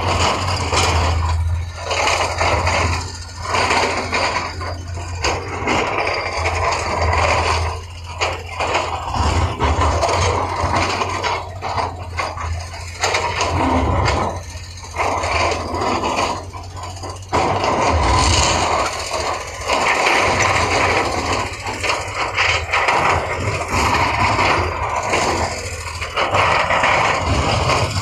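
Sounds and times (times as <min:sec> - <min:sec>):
diesel engine humming: 0:00.0 - 0:28.0
scraping and clanking in rock: 0:00.0 - 0:28.0.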